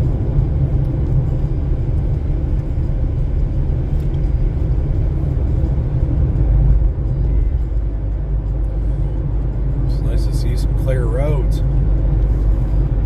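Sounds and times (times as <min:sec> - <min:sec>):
car engine rumble: 0:00.0 - 0:13.0
tyres on road: 0:00.0 - 0:13.0.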